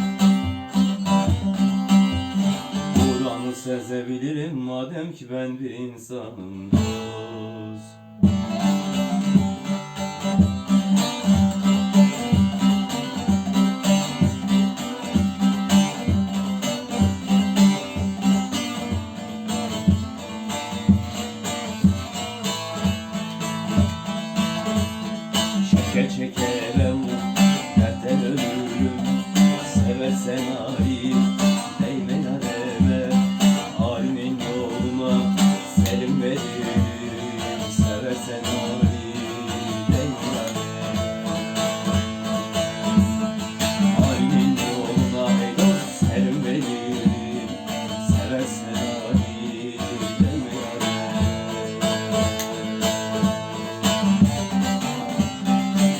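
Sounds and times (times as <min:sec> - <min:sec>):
strummed string instrument: 0:00.0 - 0:55.9.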